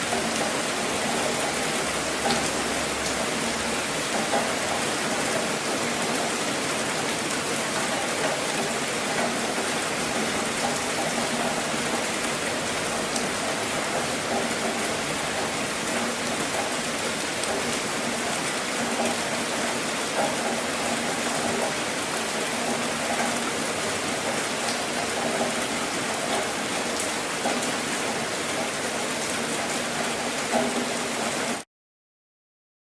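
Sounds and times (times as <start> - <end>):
rain falling on a car: 0.0 - 31.6.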